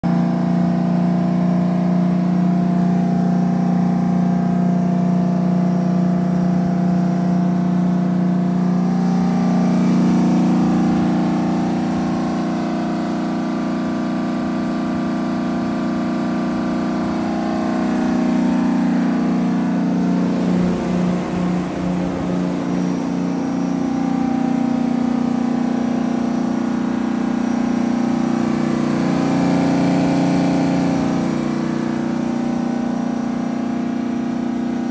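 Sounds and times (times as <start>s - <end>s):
diesel generator engine droning: 0.0s - 34.9s.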